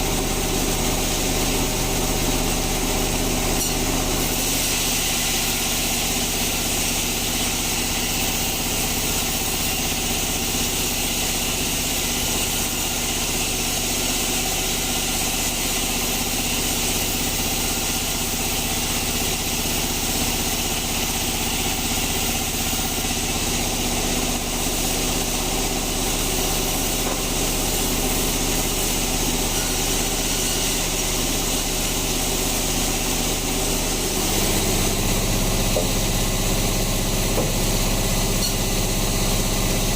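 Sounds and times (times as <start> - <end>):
bandsaw machinery droning: 0.0 - 39.9.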